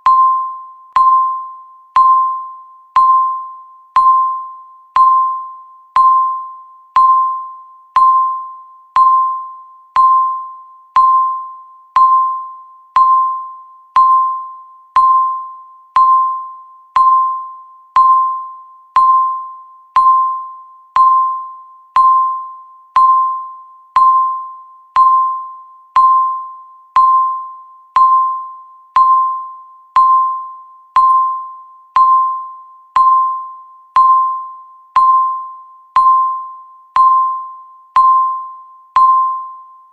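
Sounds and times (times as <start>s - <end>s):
countdown timer beeps: 0.0s - 39.8s.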